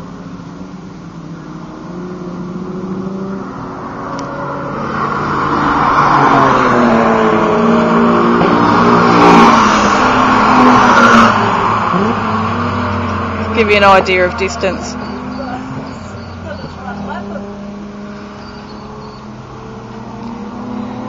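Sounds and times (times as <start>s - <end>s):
race cars passing at full throttle: 0.0s - 21.0s.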